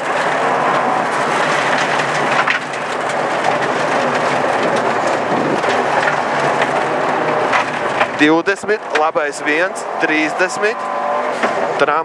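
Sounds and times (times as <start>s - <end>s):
gravel drumming against car underbody: 0.0s - 9.7s
car engine running hard: 0.0s - 12.0s.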